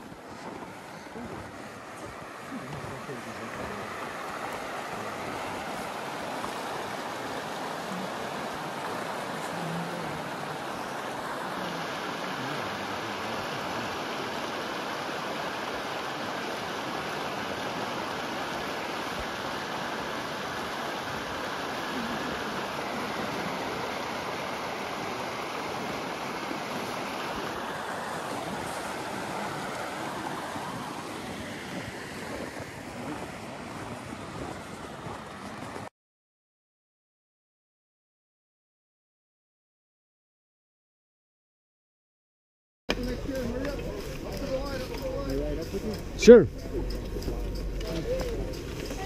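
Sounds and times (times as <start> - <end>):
creek rushing over rocks: 0.0 - 35.9, 42.9 - 49.0.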